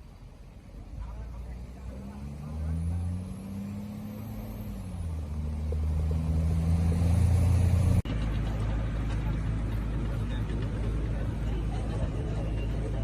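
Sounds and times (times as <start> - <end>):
large engine humming: 0.0 - 13.0.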